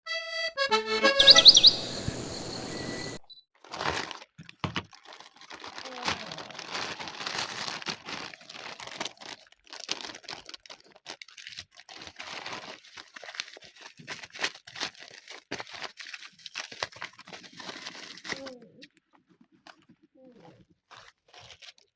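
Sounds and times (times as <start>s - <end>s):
packaging crinkling and tearing: 3.6s - 21.9s.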